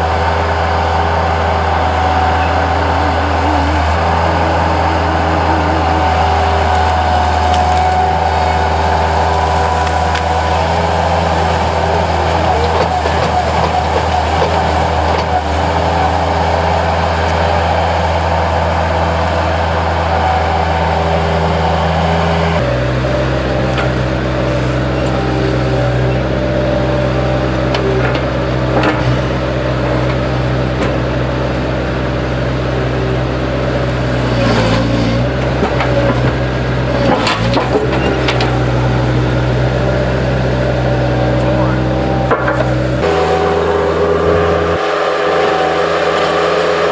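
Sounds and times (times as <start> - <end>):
skid loader engine running: 0.0 - 46.9.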